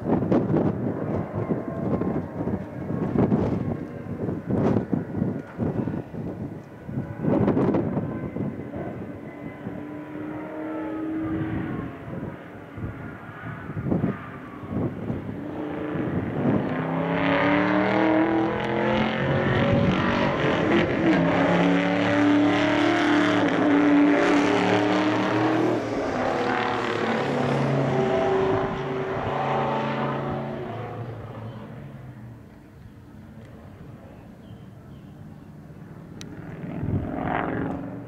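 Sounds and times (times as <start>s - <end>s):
muscle car engine at full throttle: 0.0s - 38.0s.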